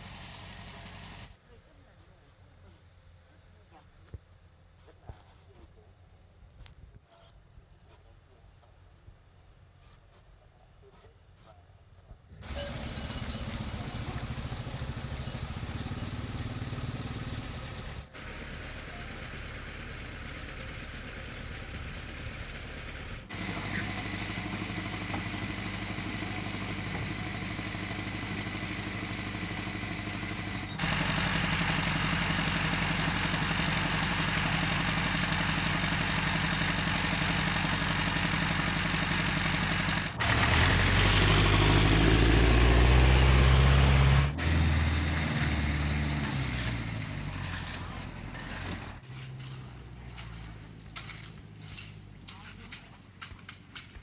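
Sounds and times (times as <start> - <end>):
construction machinery engines running: 0.0 - 4.8, 7.6 - 54.0.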